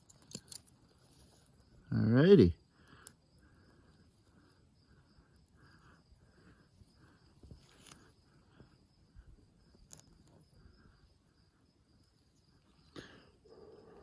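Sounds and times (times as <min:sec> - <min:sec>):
faint insect chirping: 0:00.0 - 0:14.0.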